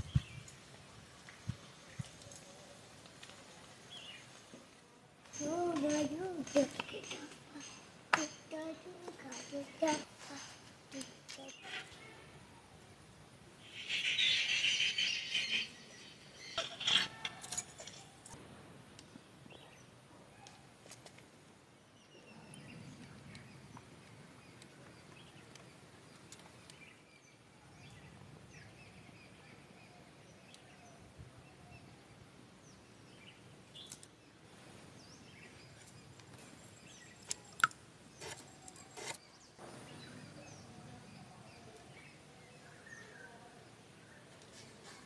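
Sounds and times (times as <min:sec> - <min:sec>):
faint rural outdoor ambience: 0:00.0 - 0:45.0.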